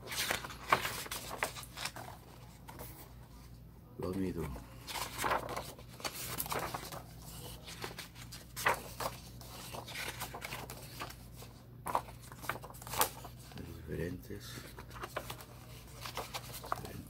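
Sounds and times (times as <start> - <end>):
paper rustling: 0.0 - 13.6, 14.5 - 17.0.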